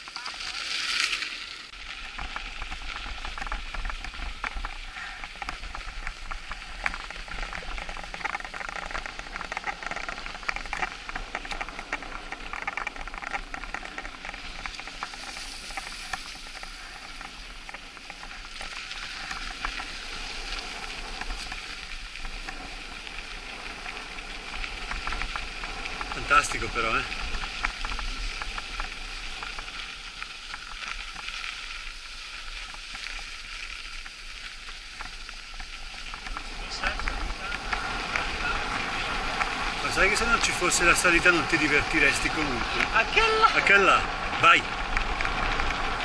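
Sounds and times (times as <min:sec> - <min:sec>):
bike tyres crackling on snow: 0:00.0 - 0:46.0.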